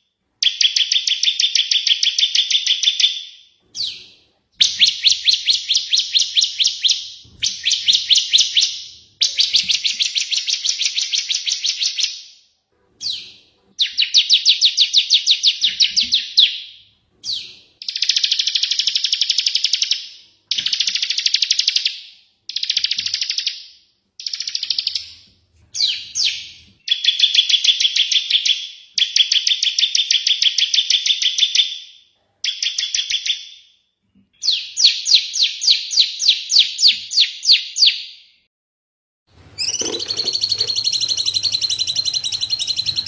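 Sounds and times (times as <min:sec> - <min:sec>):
sharp bird chirps: 0:00.0 - 0:12.4, 0:13.0 - 0:31.8, 0:34.4 - 0:38.2, 0:39.6 - 0:43.0.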